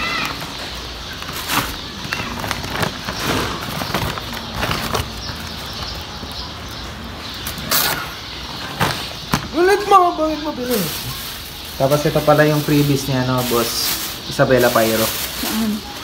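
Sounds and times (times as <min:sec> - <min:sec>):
paper bag crinkling and rustling: 0:00.0 - 0:06.4, 0:07.6 - 0:16.0.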